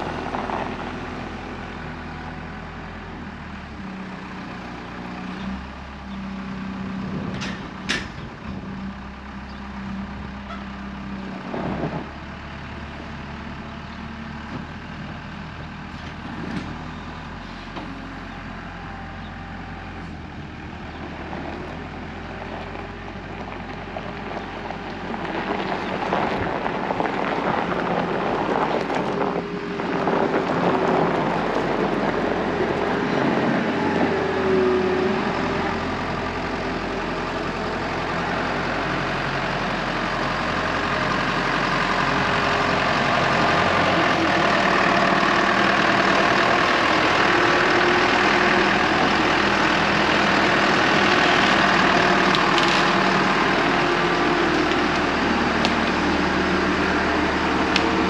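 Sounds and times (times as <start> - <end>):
rough mechanical noise: 0.0 - 58.0
tractor engine running: 0.0 - 58.0.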